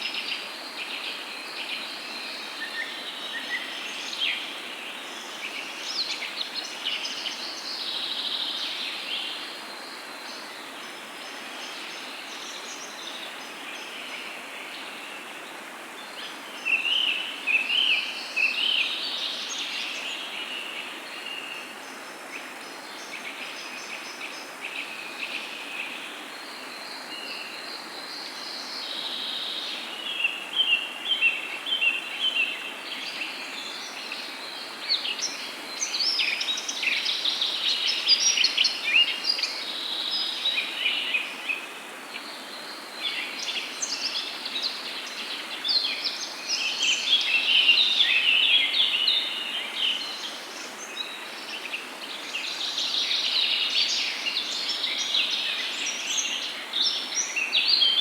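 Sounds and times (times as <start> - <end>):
background hiss: 0.0 - 58.0
songbirds singing and chirping: 0.0 - 58.0.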